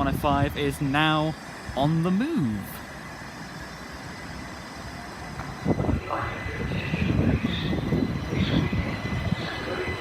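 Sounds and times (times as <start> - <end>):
electric train hum: 0.0 - 10.0
train wheels rumbling: 0.0 - 10.0.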